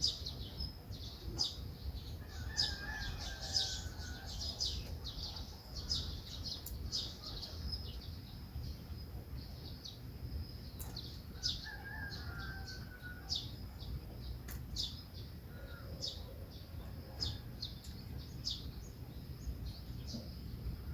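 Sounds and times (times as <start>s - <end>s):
low steady background rumble: 0.0s - 11.6s, 12.2s - 20.9s
songbirds chirping: 0.0s - 20.9s.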